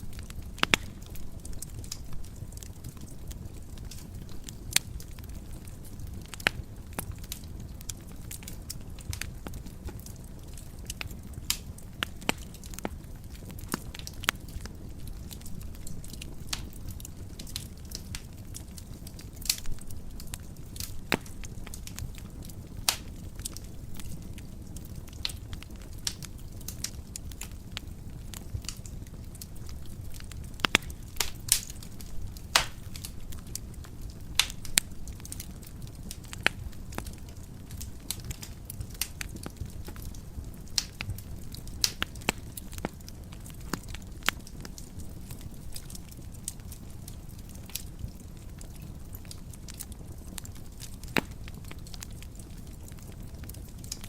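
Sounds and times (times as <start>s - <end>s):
fire crackling and popping: 0.0s - 54.0s
wood fire rumbling: 0.0s - 54.0s.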